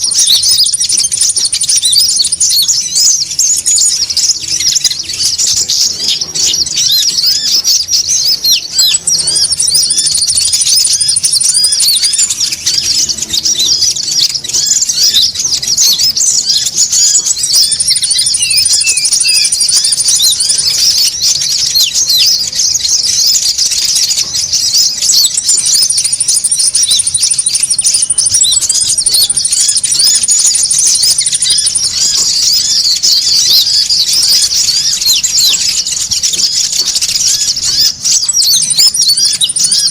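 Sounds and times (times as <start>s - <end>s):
birds chattering with high chirps: 0.0s - 39.9s.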